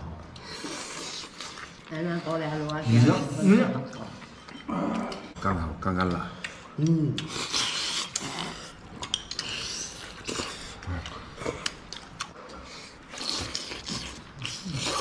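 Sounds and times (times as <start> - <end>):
people chewing meat: 0.0 - 15.0.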